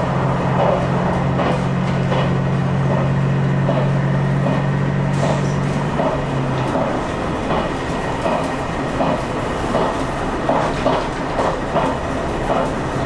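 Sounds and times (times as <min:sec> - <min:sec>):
diesel engine drone: 0:00.0 - 0:13.0
train running rumble: 0:00.0 - 0:13.0
train wheels clicking over rail joints: 0:00.0 - 0:13.0.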